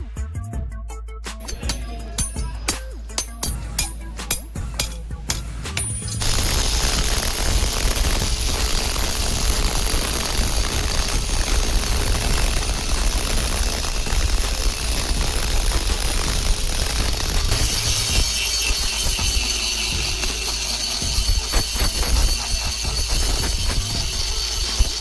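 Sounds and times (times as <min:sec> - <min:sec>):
metalworking machine noise: 0:01.4 - 0:25.0.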